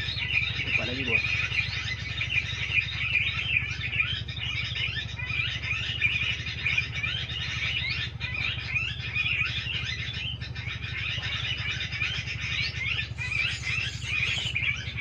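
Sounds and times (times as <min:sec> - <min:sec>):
small birds chirping and trilling: 0:00.0 - 0:15.0
steady low hum: 0:00.0 - 0:15.0.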